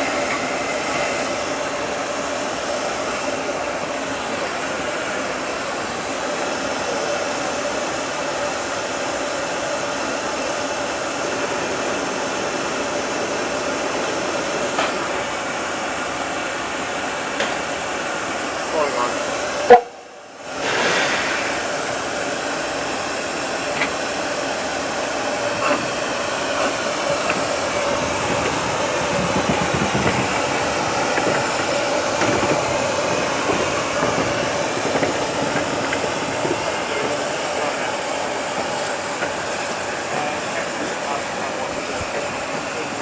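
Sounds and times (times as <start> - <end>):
steam train rushing: 0.0 - 43.0.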